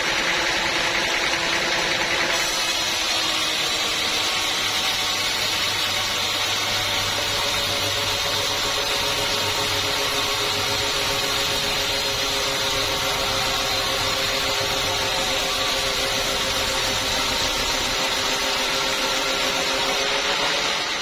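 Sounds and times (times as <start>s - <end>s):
sawmill machinery humming: 0.0s - 21.0s.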